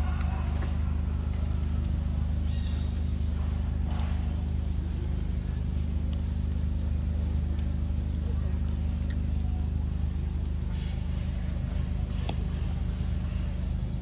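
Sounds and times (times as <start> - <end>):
motor droning: 0.0 - 14.0.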